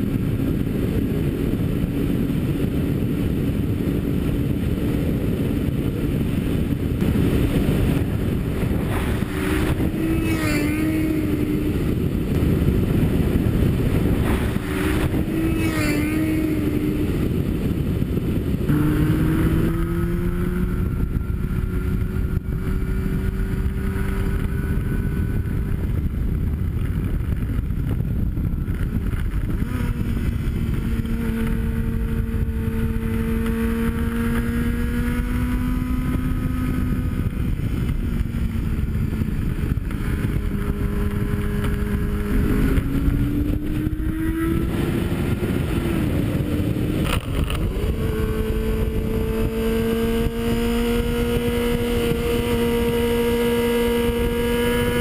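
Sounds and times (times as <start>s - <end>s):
motorcycle engine running: 0.0s - 55.0s
wind over microphone: 0.0s - 55.0s.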